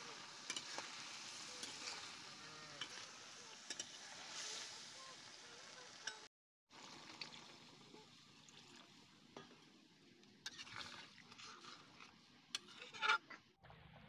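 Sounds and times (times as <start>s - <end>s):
curry simmering in a pan: 0.0s - 12.9s.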